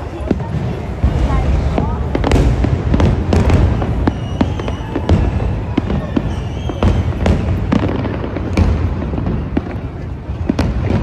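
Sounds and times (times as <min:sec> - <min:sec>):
fireworks bangs and crackles: 0:00.0 - 0:11.0
low rumble of distant bursts: 0:00.0 - 0:11.0.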